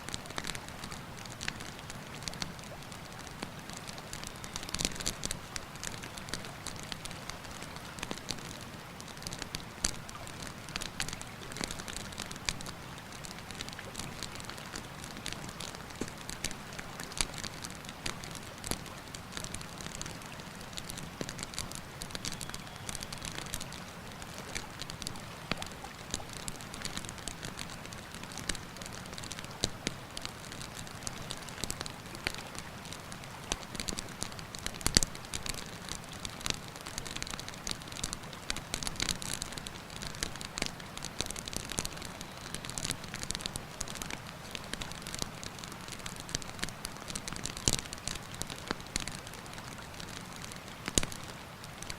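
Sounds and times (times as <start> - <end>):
campfire crackling and popping: 0.1 - 51.9.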